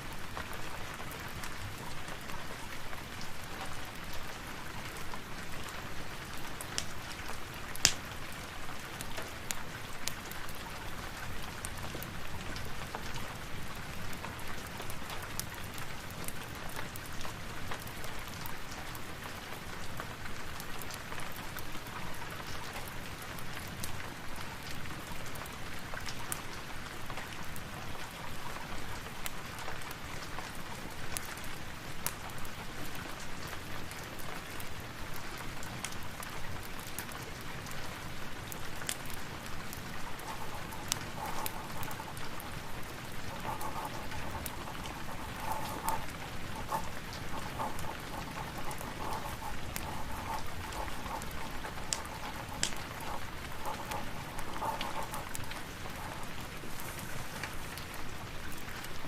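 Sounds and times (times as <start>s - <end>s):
steady rain: 0.0s - 59.0s
sharp crackles and pops: 0.1s - 59.0s.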